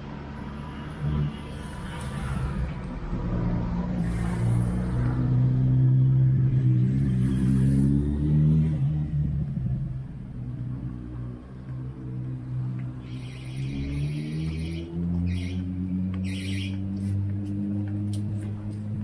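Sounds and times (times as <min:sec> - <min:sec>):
engine running low hum: 0:00.0 - 0:19.0.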